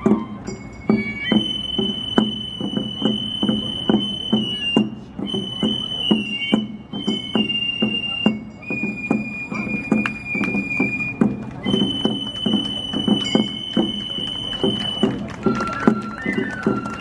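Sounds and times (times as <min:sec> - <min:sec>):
high flute playing long notes: 0:00.0 - 0:17.0
steady drum beats: 0:00.0 - 0:17.0.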